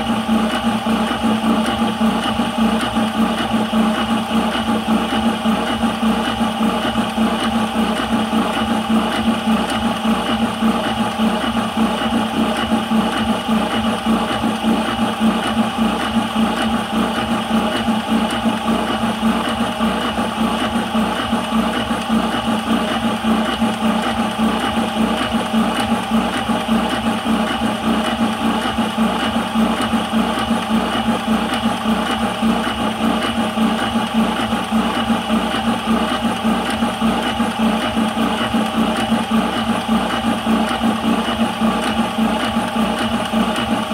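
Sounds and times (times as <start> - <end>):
air compressor pulsing hum: 0.0 - 43.9.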